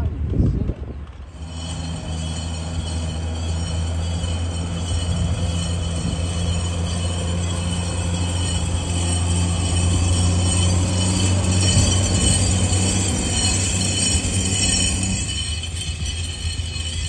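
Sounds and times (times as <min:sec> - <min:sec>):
steel tracks rattling: 0:00.0 - 0:17.0
tracked vehicle engine: 0:00.0 - 0:17.0.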